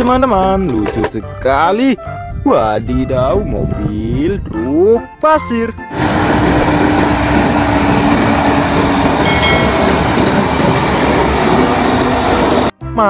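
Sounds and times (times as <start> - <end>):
dump trucks rumbling: 0.0 - 12.7.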